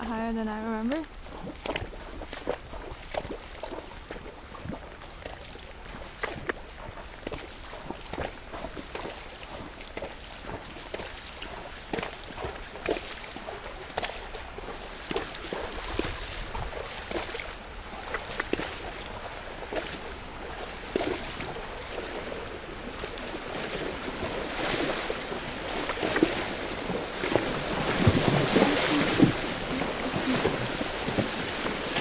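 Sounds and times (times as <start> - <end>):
horse splashing through water: 0.9 - 32.0.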